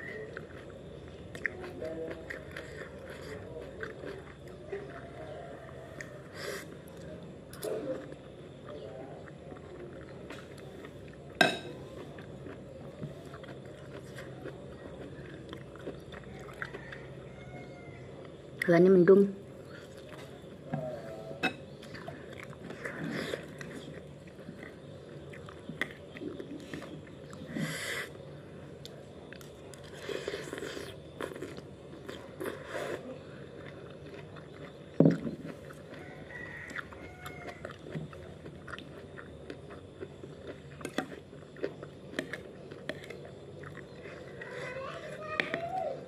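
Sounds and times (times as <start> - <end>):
chewing crunchy food: 0.0 - 18.7, 19.4 - 46.0.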